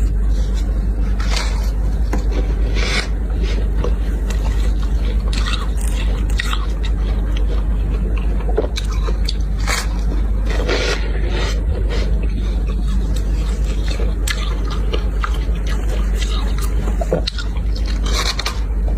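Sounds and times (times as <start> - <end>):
steady low hum: 0.0 - 18.9
frost being crunched and chewed: 0.1 - 18.7.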